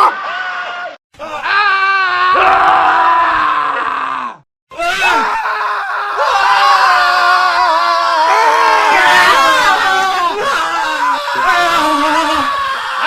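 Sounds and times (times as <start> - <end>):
men screaming: 0.0 - 13.0.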